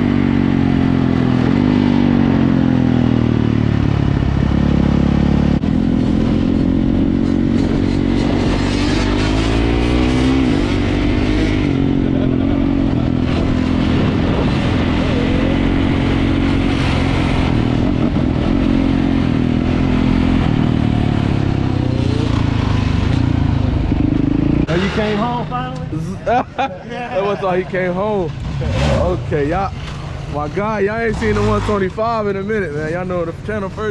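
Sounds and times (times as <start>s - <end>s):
dirt bike engine revving: 4.3s - 26.4s, 27.2s - 33.0s.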